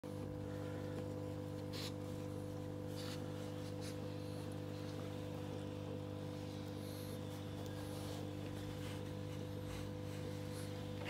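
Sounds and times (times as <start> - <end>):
aquarium pump humming: 0.0 - 11.0.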